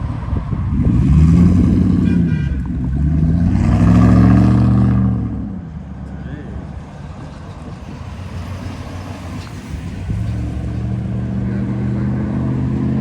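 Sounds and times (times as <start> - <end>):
car engine revving: 0.6 - 5.9, 6.6 - 13.0.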